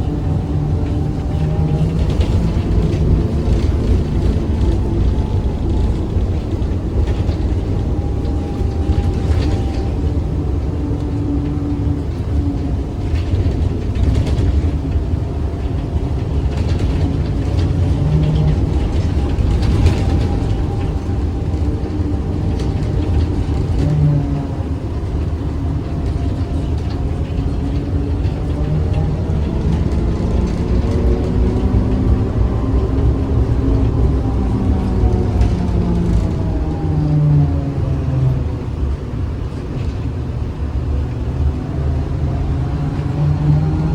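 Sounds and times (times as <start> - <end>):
light rattles and clicks: 0.0 - 43.9
trolleybus running gear rumble: 0.0 - 43.9.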